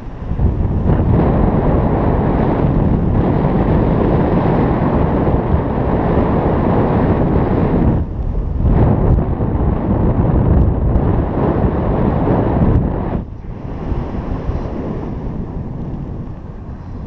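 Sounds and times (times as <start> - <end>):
airflow rushing over microphone: 0.0 - 17.0.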